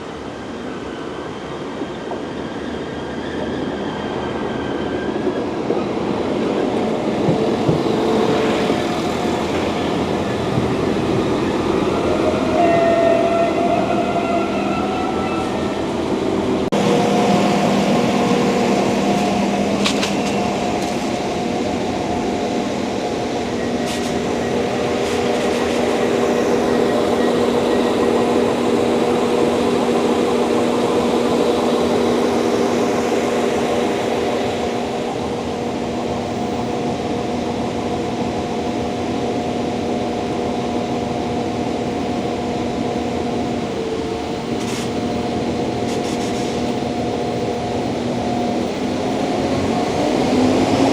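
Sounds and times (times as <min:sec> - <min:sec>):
train engine humming drone: 0:00.0 - 0:50.9.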